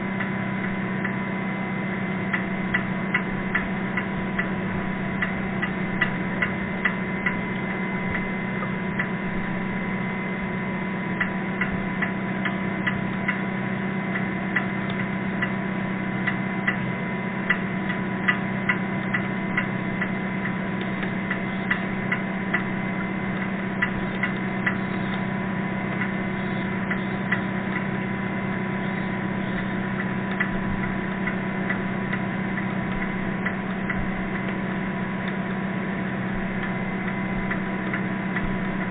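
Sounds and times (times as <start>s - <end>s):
underwater low drone: 0.0s - 38.9s
sharp ticks: 2.3s - 9.6s, 14.1s - 15.6s, 16.2s - 38.9s.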